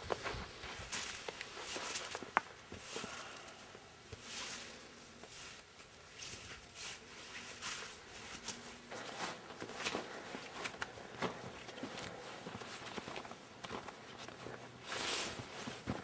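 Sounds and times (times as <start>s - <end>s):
footsteps crunching through snow: 0.0s - 3.4s, 4.2s - 16.0s.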